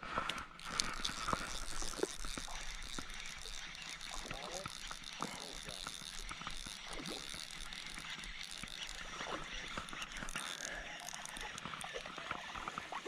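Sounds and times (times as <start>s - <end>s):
fishing rod and reel clicks: 0.2s - 13.0s.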